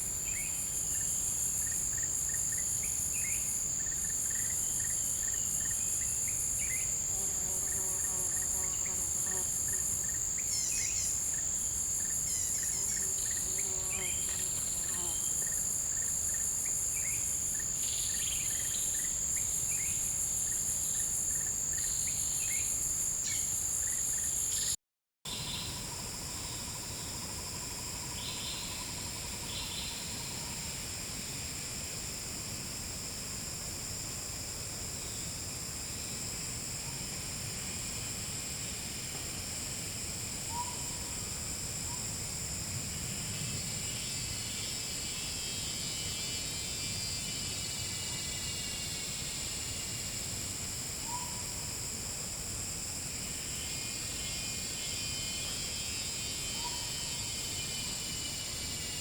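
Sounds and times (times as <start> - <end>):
insects buzzing: 0.0 - 59.0
pulsing insect sound: 0.0 - 59.0.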